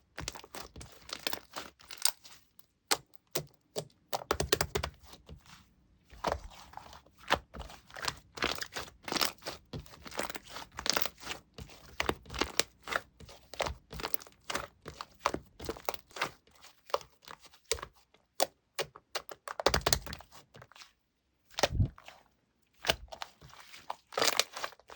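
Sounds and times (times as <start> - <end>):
hands squishing slime: 0.0 - 24.9.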